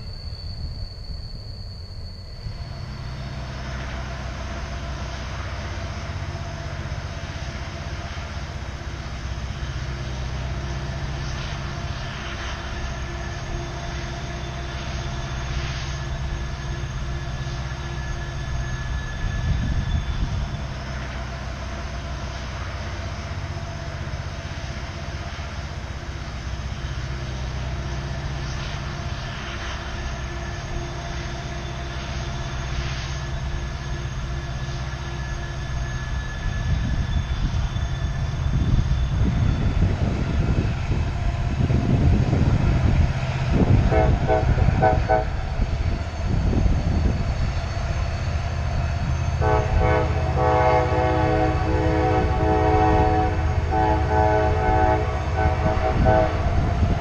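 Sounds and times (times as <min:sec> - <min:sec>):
wheel squeal: 0:00.0 - 0:06.2, 0:07.0 - 0:49.4
diesel locomotive rumble: 0:00.0 - 0:57.0.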